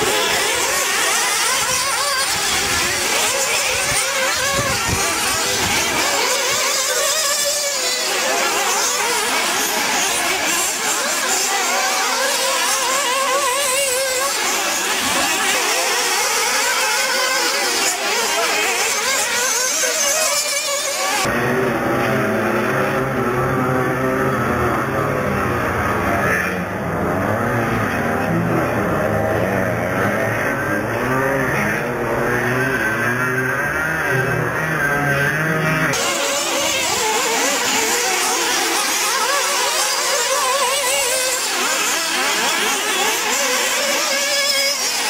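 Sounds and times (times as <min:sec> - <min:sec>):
rc car engines buzzing: 0:00.0 - 0:45.0.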